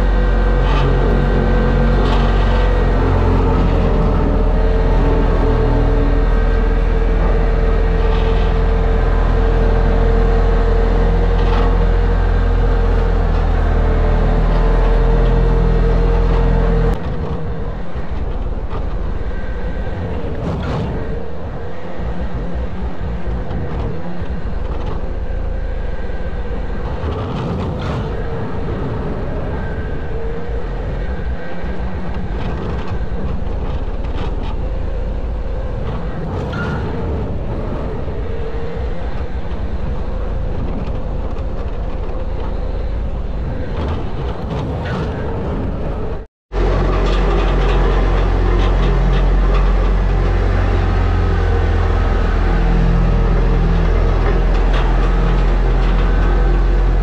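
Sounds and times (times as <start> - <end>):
roller engine rumbling: 0.0 - 57.0.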